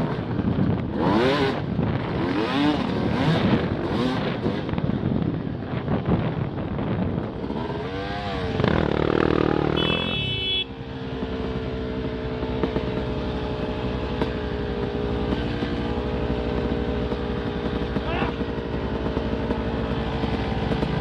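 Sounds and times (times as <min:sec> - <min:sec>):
off-road motorcycle engine revving: 0:00.0 - 0:21.0.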